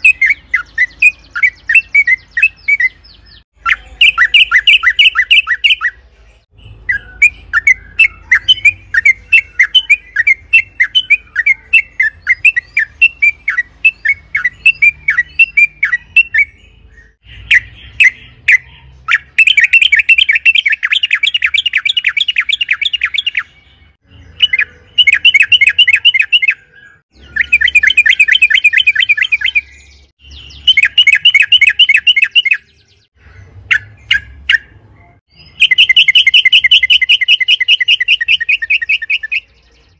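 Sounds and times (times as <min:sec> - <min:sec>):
bird singing rising notes: 0:00.0 - 0:39.9.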